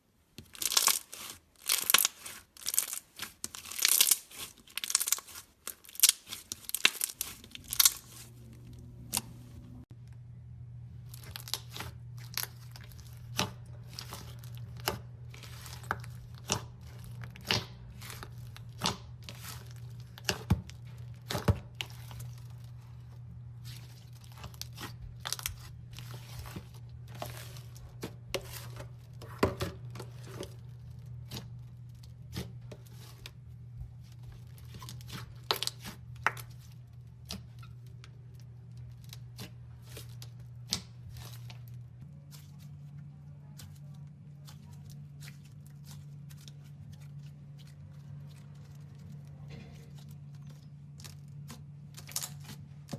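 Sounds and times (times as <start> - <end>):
steady low hum: 6.5 - 52.9.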